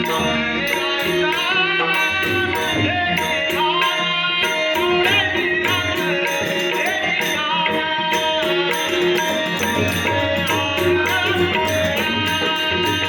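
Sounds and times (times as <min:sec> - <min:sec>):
hand drums playing: 0:00.0 - 0:13.0.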